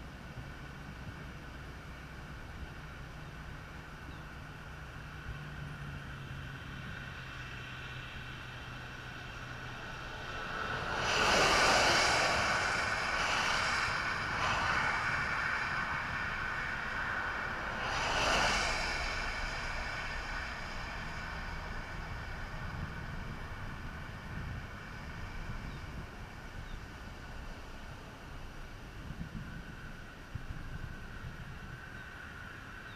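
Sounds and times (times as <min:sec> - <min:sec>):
tyres hissing on wet road: 0:00.1 - 0:32.9.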